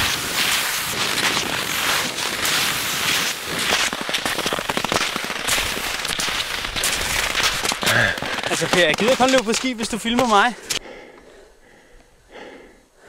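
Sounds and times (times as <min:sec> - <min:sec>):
skis scraping over crusted snow: 0:00.0 - 0:10.8.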